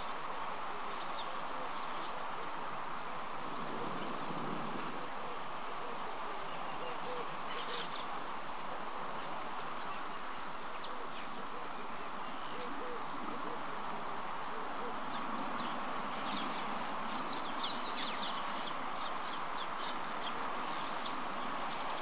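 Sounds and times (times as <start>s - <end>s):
soft low bird calls: 0.0s - 22.0s
steady outdoor hiss: 0.0s - 22.0s.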